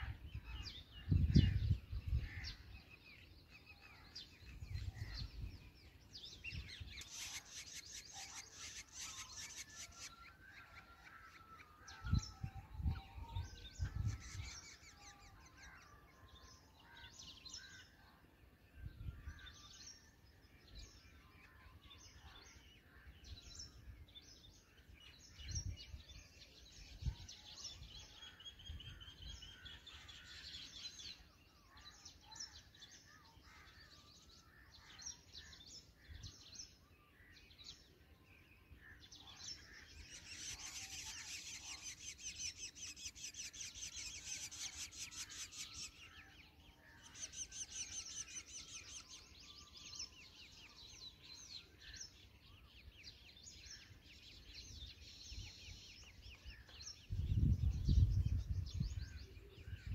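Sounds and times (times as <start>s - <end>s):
birds chirping and calling: 0.0s - 59.9s.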